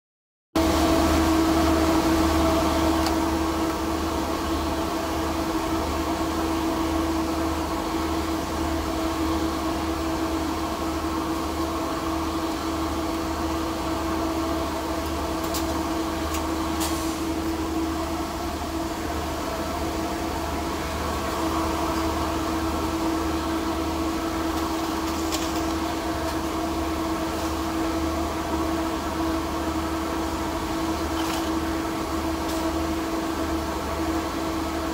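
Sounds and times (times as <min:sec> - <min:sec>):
ventilation blower humming: 0:00.6 - 0:34.9.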